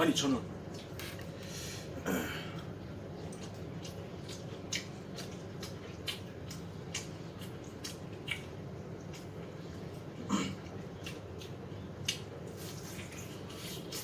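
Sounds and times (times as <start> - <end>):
low room hum: 0.0 - 14.0
crunching and chewing fried chicken: 0.6 - 14.0.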